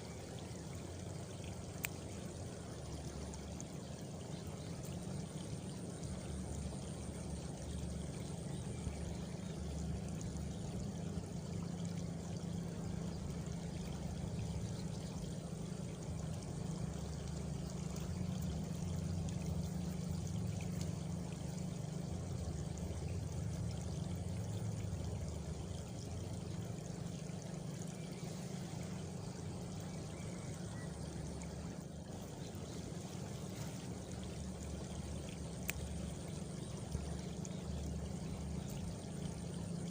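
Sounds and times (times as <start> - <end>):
low continuous rushing noise: 0.0 - 39.9.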